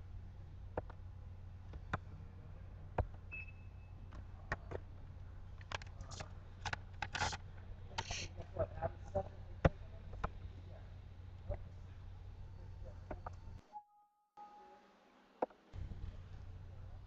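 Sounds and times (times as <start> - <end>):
low steady hum: 0.0 - 13.7, 14.4 - 17.0.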